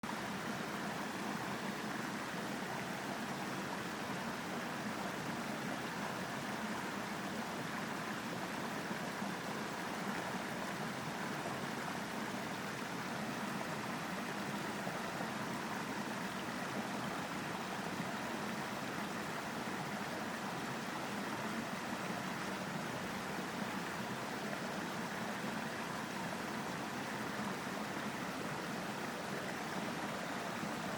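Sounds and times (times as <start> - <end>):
stream flowing over rocks: 0.0 - 30.9.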